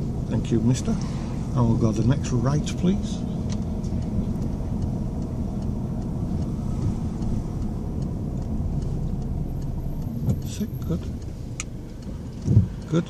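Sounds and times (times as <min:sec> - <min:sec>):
car engine and tyres rumbling: 0:00.0 - 0:13.0
turn indicator ticking: 0:00.0 - 0:13.0.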